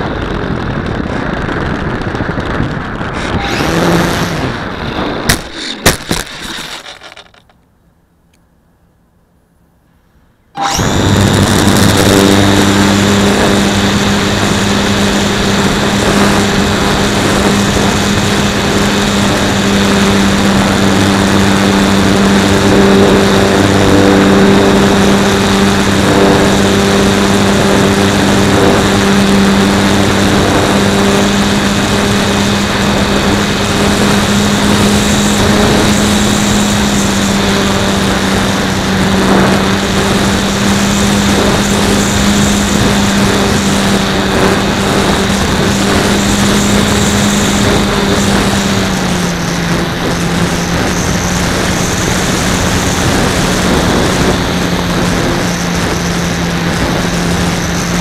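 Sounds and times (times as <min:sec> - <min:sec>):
rushing air: 0:00.0 - 0:07.4, 0:10.6 - 0:58.0
model plane motor buzzing: 0:00.0 - 0:07.6, 0:10.6 - 0:58.0.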